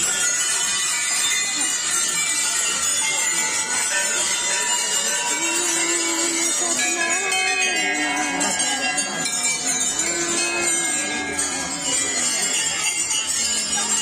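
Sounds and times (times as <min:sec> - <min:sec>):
crowd voices: 0:00.0 - 0:14.0
metal bells jangling: 0:00.0 - 0:14.0.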